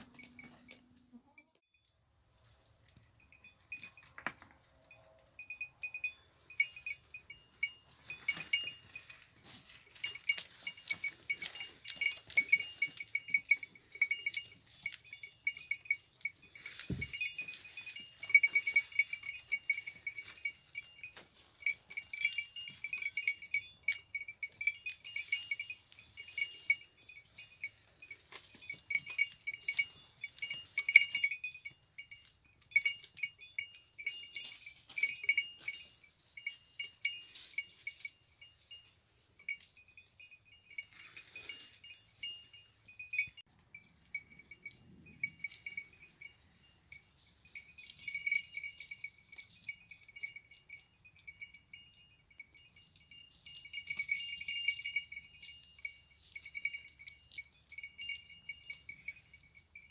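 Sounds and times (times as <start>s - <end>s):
goat bell clanking: 0.0s - 59.9s.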